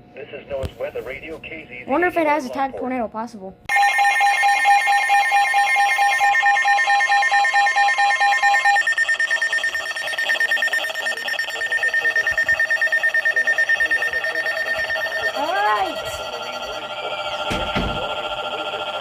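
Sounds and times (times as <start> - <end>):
rapid electronic beeping: 3.7 - 19.0
steady alarm tone: 3.7 - 19.0.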